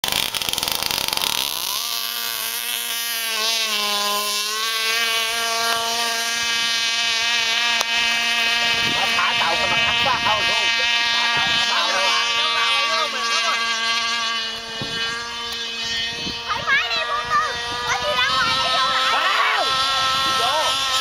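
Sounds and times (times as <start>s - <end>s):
model boat motor whining: 0.0s - 21.0s.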